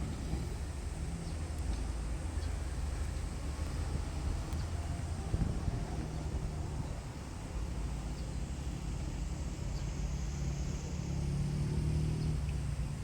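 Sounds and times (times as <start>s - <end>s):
diesel railcar engine droning: 0.0s - 11.6s.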